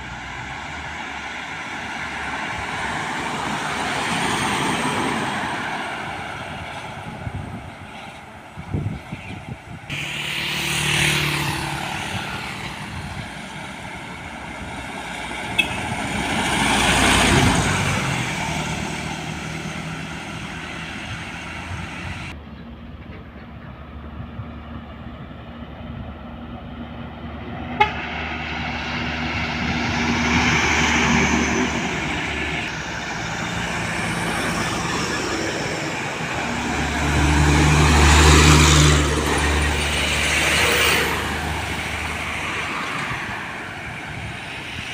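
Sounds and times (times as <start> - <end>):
heavy trucks passing: 0.0 - 44.9.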